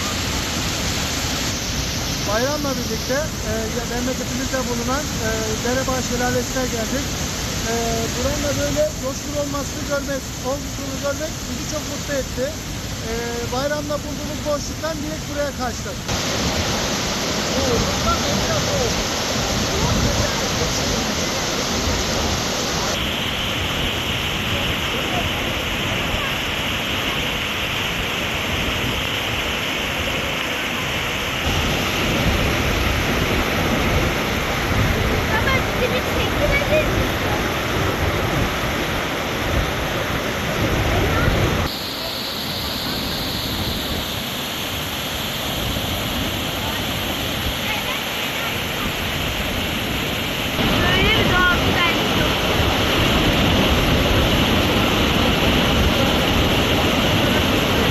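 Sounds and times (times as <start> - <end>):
waterfall roaring: 0.0 - 57.9.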